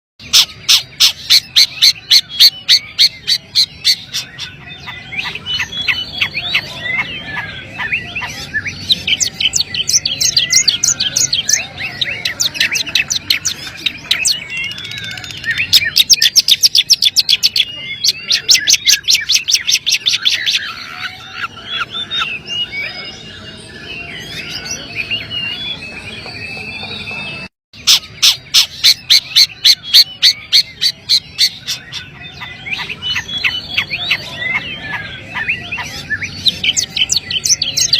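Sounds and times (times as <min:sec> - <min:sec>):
shrike singing: 0:00.2 - 0:37.9.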